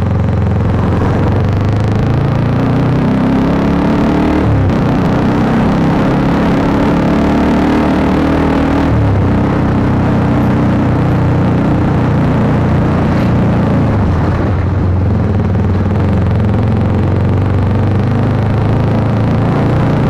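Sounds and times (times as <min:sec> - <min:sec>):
motorcycle engine exhaust note: 0:00.0 - 0:20.0.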